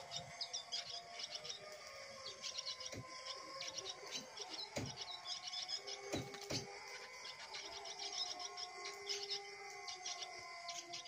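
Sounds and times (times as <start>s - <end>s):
swallows twittering: 0.0s - 11.0s.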